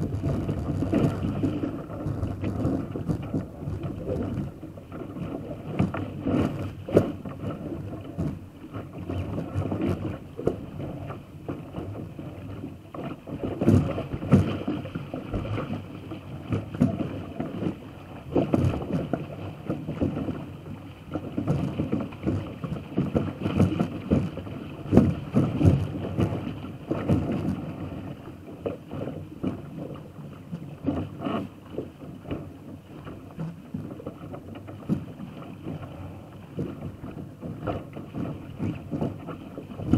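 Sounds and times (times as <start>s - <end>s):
water splashing along boat hull: 0.0s - 39.9s.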